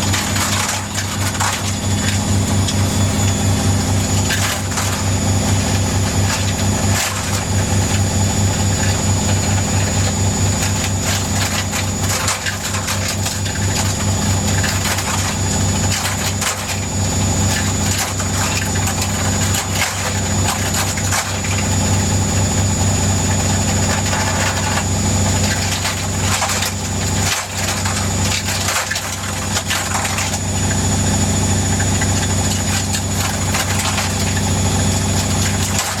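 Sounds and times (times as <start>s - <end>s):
washing machine spin cycle hum: 0.0s - 36.0s.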